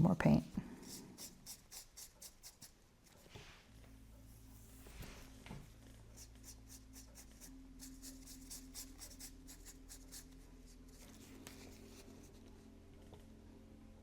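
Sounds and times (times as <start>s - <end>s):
paintbrush scratchy strokes: 0.8s - 12.6s.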